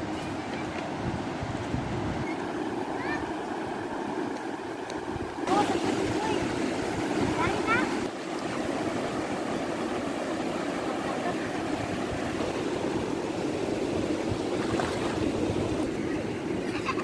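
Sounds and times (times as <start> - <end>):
foamy water washing over sand: 0.0 - 17.0
waves breaking: 0.0 - 17.0.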